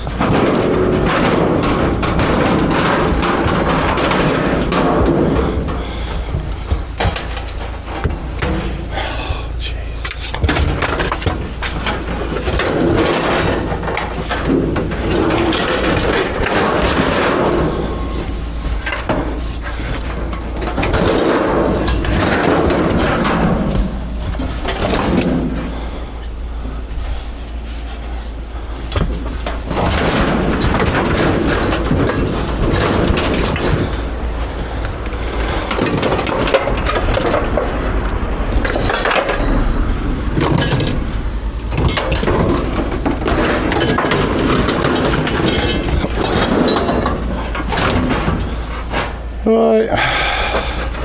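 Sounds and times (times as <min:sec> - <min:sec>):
scrap metal clanking: 0:00.0 - 0:49.4
low rumble: 0:00.0 - 0:51.0.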